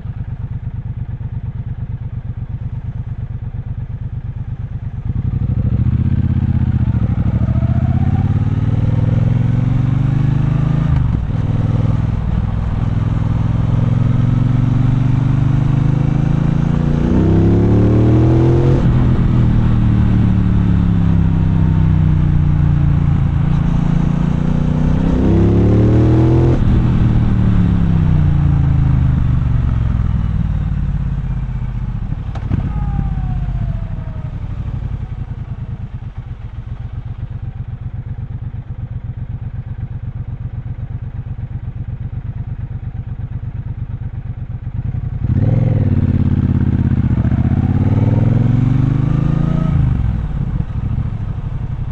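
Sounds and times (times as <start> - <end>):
motorcycle engine revving: 4.0 - 51.9.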